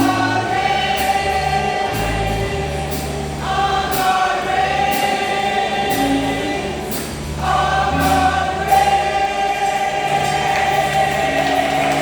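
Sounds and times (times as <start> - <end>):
choir singing slow hymn: 0.0 - 12.0.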